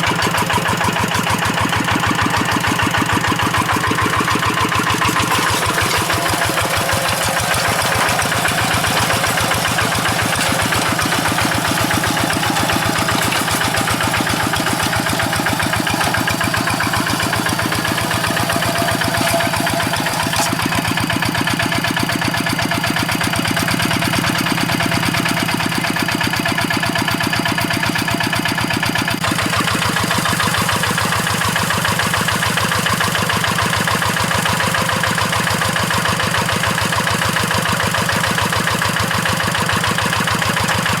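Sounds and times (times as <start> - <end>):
diesel engine running: 0.0 - 27.1, 28.9 - 41.0.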